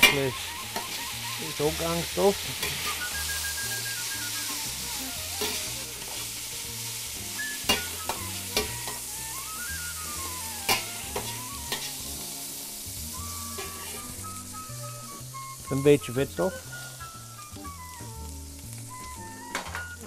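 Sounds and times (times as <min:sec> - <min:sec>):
meat sizzling in a pot: 0:00.0 - 0:20.0.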